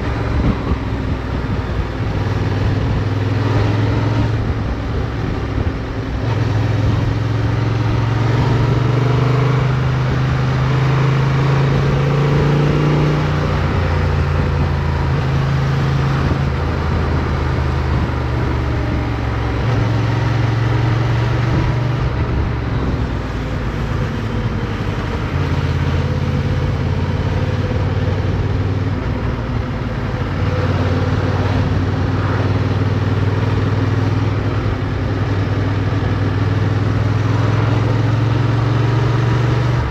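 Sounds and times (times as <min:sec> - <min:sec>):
motorcycle engine revving: 0:00.0 - 0:39.9
wind rushing noise: 0:00.0 - 0:39.9.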